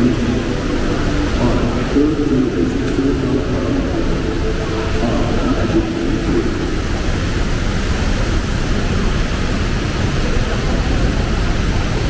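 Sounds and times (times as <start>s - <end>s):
loud low rumbling: 0.0s - 12.0s.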